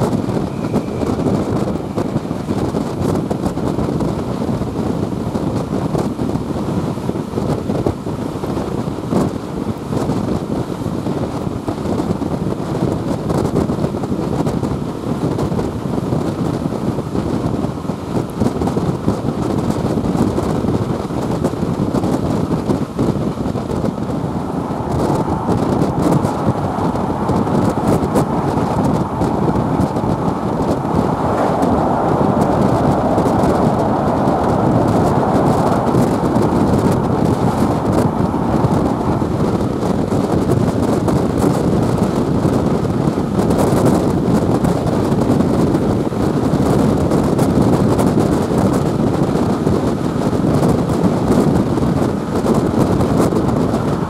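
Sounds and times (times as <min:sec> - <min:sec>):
train wheels rumbling on rails: 0:00.0 - 0:54.0
wind buffeting microphone: 0:00.0 - 0:54.0.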